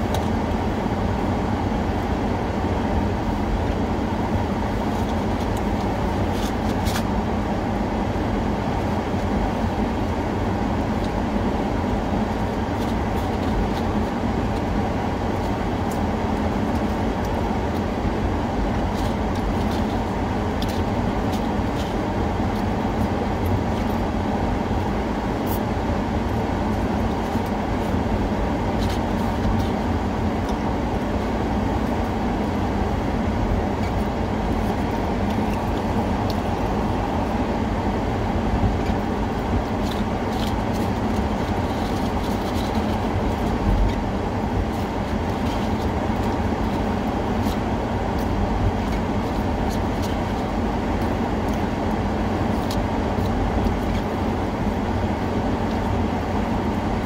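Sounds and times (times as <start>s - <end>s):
moving vehicle rumble: 0.0s - 57.0s.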